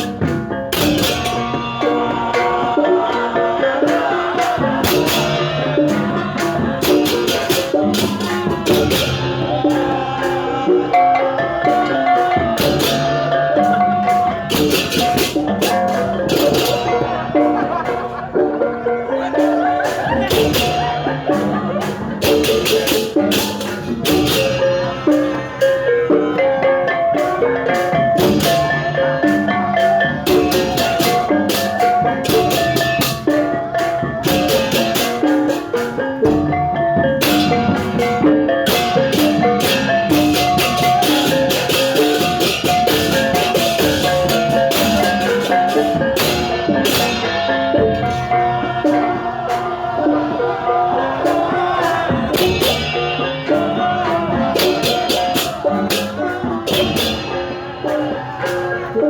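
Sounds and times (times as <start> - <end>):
drums: 0.0 - 59.0.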